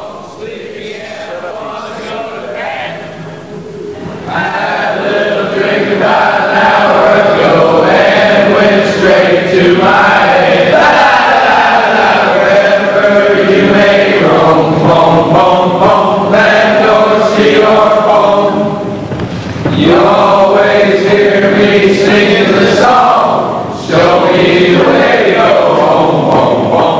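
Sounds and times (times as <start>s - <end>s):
group singing slow phrases: 0.0s - 26.9s.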